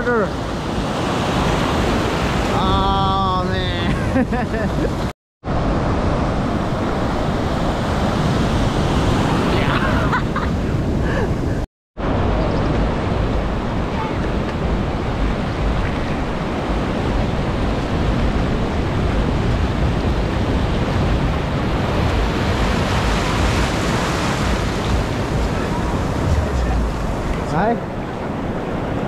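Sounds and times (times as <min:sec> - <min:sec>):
ocean surf: 0:00.0 - 0:29.0
wind on microphone: 0:00.4 - 0:29.0.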